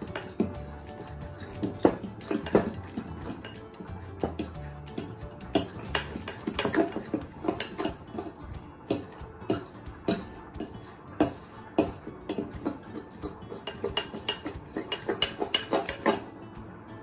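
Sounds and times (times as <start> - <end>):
metal utensil clinking in ceramic bowl: 0.0 - 8.4, 9.5 - 16.2.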